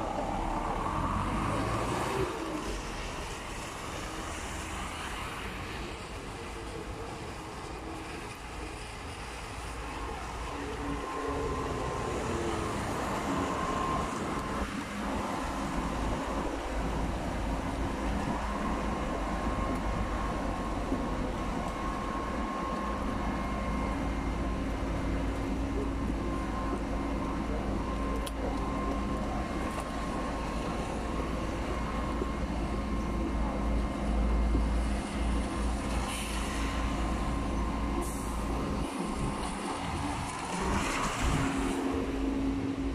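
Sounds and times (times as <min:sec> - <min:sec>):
bus engine hum: 0:00.0 - 0:42.9.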